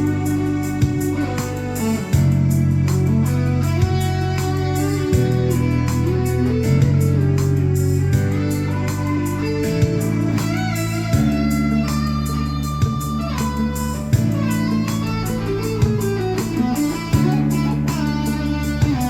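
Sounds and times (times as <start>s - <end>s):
bass: 0.0s - 19.0s
guitar: 0.0s - 19.0s
keyboard chords: 0.0s - 19.0s
steady beat: 0.0s - 19.0s.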